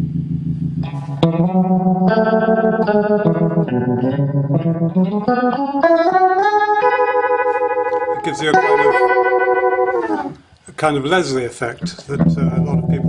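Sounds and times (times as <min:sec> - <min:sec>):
swirling electric guitar chords: 0:00.0 - 0:10.5, 0:11.8 - 0:13.0.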